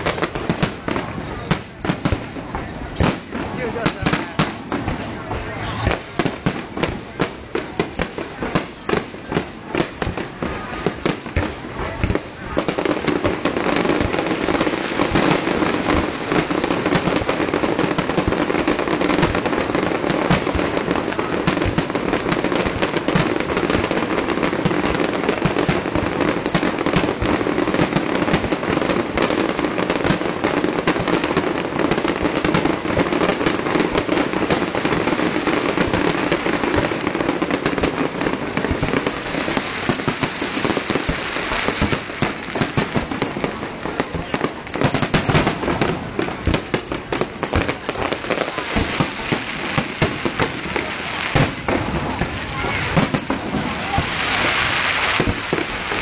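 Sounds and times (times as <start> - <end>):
aerial fireworks bangs: 0.0 - 56.0.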